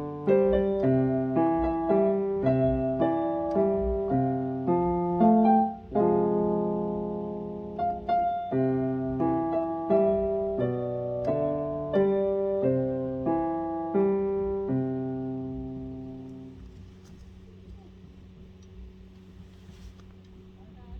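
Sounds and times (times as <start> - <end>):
piano keyboard slow melody: 0.0 - 19.3.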